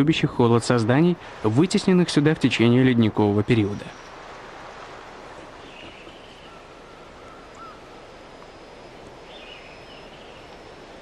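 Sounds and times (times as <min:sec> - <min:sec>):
background hiss: 0:00.0 - 0:11.0
forest birds calling: 0:00.0 - 0:11.0.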